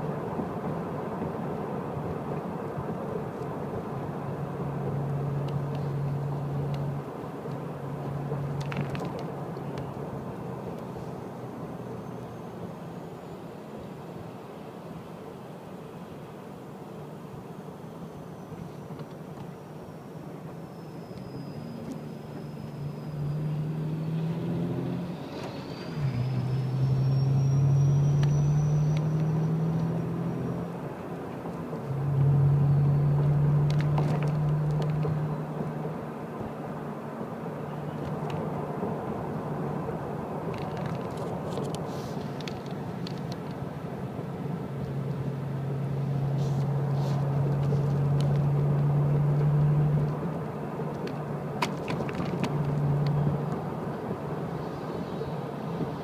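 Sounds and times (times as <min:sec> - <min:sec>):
car engine drone: 0:00.0 - 0:56.0
road rumble: 0:00.0 - 0:56.0.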